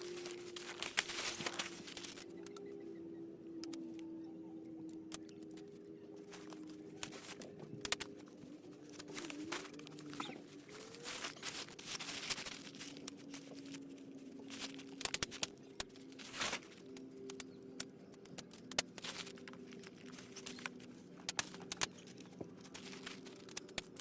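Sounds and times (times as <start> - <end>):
faint steady hum: 0.0 - 24.0
handling clicks and rustling: 0.0 - 24.0.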